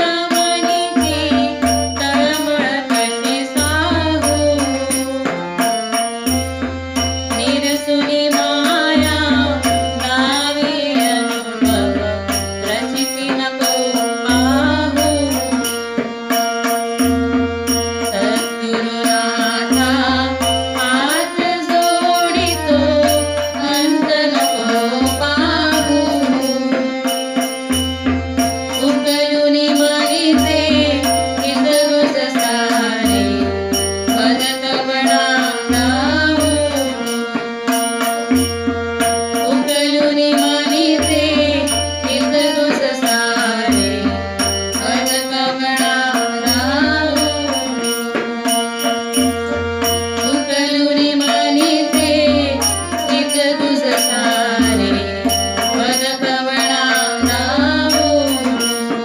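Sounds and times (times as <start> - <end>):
women singing: 0.0 - 16.0, 17.0 - 27.8, 28.4 - 59.0
harmonium: 0.0 - 59.0.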